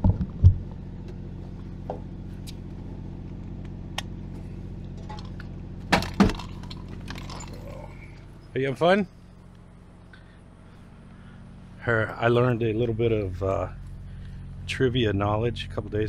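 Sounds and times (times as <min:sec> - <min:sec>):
diesel engine idling: 0:00.3 - 0:16.0.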